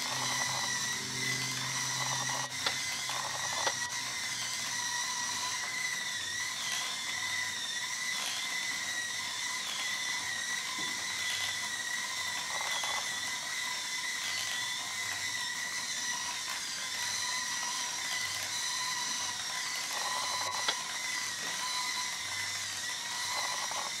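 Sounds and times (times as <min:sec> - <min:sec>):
small electric motor whine: 0:00.0 - 0:24.0.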